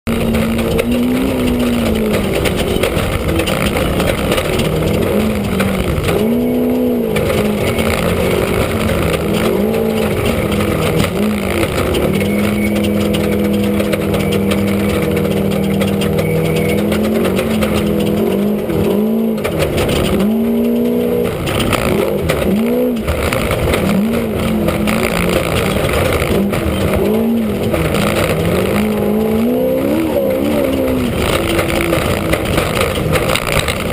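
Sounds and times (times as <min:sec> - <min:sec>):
race vehicle engine revving: 0:00.0 - 0:33.9.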